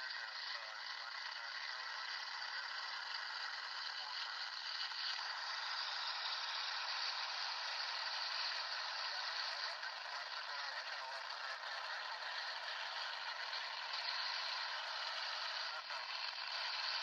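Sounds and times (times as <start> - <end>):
radio static hissing: 0.0 - 17.0.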